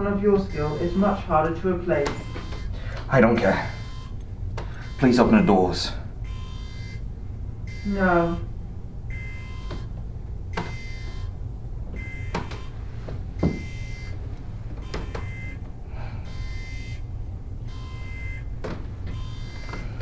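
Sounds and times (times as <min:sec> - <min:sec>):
pulsing alarm tone: 0:00.0 - 0:12.8, 0:13.4 - 0:20.0
steady low rumble: 0:00.0 - 0:20.0.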